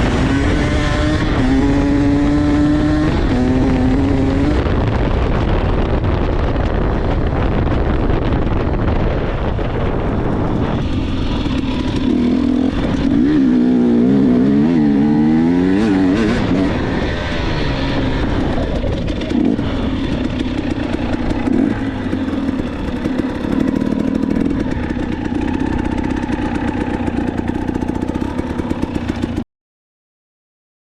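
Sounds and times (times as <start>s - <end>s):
dirt bike engine revving: 0.0s - 5.7s, 9.6s - 29.4s.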